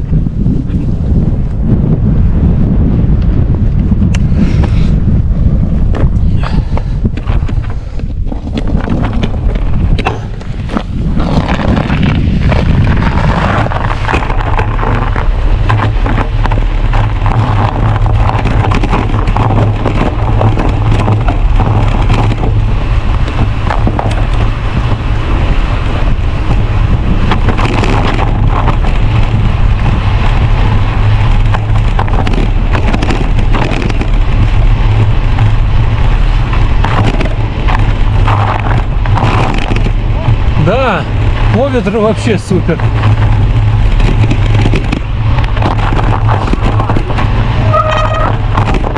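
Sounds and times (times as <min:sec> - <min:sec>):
bicycle tyres crackling over ice: 0:00.0 - 0:48.9
wind rumbling on microphone: 0:00.0 - 0:48.9.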